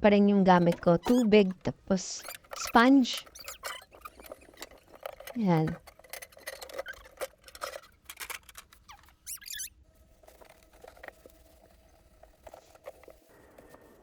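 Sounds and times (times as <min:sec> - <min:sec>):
high squeaks: 0:00.4 - 0:14.0
sponge scrubbing plastic: 0:00.4 - 0:14.0.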